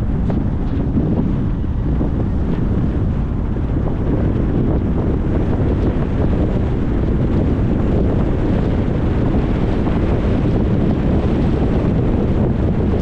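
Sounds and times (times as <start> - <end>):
tyre and wind road noise: 0.0 - 13.0
wind buffeting microphone: 0.0 - 13.0.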